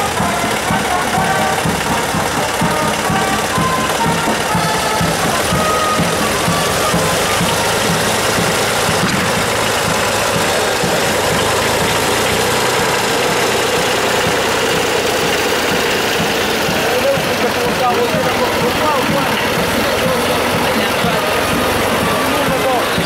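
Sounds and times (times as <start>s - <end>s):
tractor engine knocking beat: 0.0s - 23.0s
tractor engines running: 0.0s - 23.0s.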